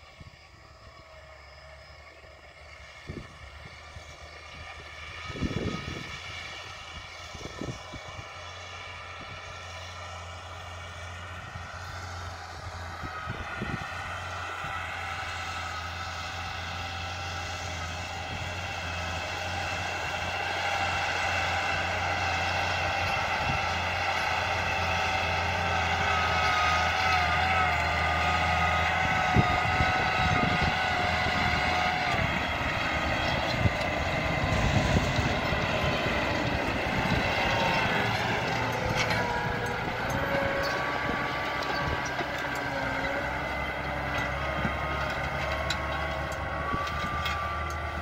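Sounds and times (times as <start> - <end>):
tractor diesel engine drone: 0.0 - 48.0.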